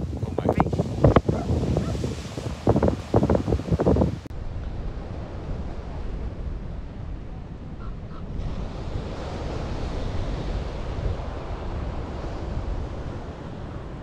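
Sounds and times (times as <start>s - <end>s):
surf washing on a beach: 0.0s - 14.0s
wind rumble on microphone: 0.0s - 14.0s.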